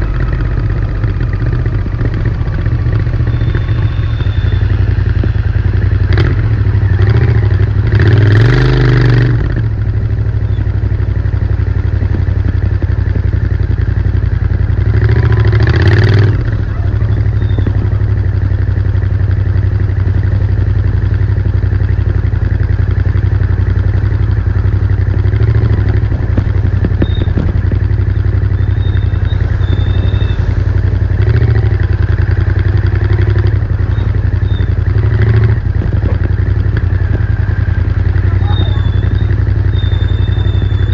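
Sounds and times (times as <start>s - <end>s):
motorcycle engine running and revving: 0.0s - 40.9s.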